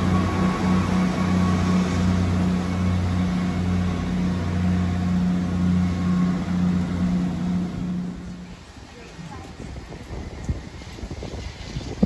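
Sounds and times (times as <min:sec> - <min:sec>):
diesel train engines droning: 0:00.0 - 0:12.0.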